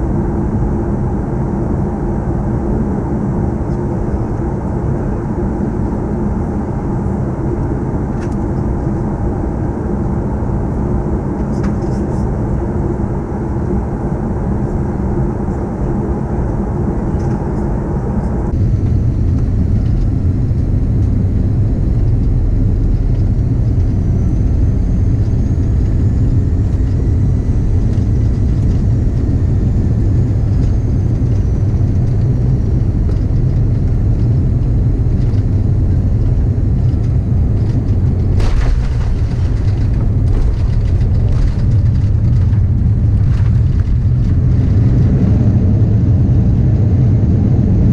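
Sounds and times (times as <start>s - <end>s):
airplane cabin rumble: 0.0s - 47.9s
faint whine: 0.0s - 47.9s.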